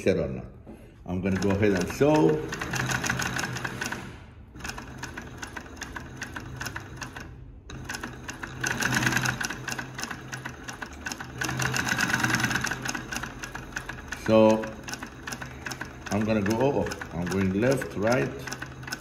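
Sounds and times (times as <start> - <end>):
sewing machine stitching: 1.1 - 19.0.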